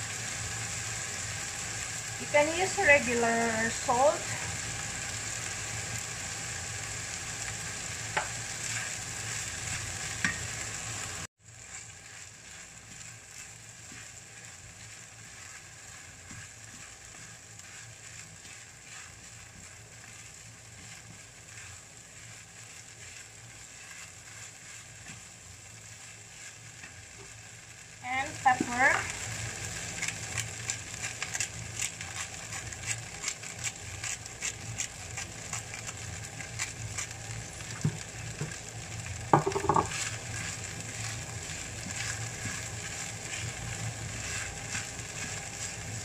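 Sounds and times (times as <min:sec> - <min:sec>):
rice sizzling in a pan: 0:00.0 - 0:46.0
wooden spatula stirring: 0:07.2 - 0:10.8, 0:11.5 - 0:46.0.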